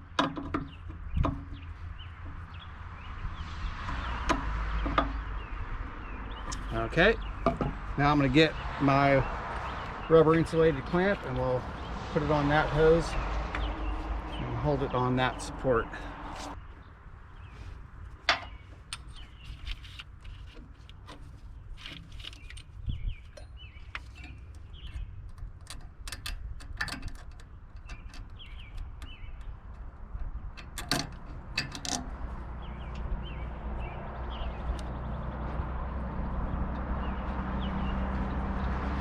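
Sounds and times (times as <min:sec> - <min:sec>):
bird chirping: 0:00.0 - 0:17.7, 0:18.3 - 0:20.4, 0:21.2 - 0:25.7, 0:27.4 - 0:29.9, 0:31.6 - 0:39.0.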